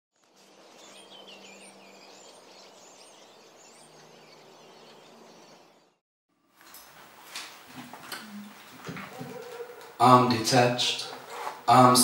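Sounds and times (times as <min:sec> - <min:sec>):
birds chirping: 0:00.2 - 0:06.0, 0:08.2 - 0:12.0.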